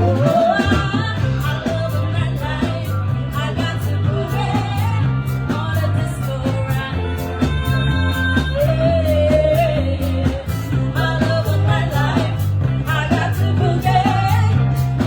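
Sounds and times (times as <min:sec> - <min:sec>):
bass line: 0:00.0 - 0:15.0
drum beat with cymbals: 0:00.0 - 0:15.0
person singing: 0:00.0 - 0:15.0.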